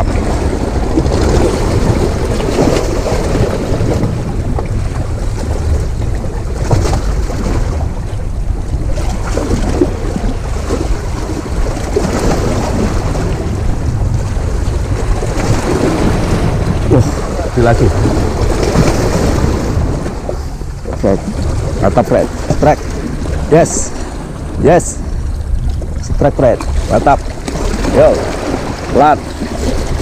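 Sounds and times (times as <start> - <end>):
sea waves breaking on rocks: 0.0 - 30.0
wind buffeting microphone: 0.0 - 30.0.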